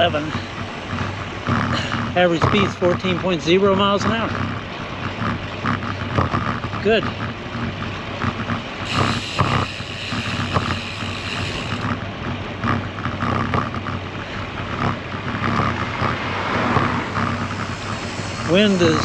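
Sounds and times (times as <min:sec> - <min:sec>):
bicycle road noise: 0:00.0 - 0:19.0.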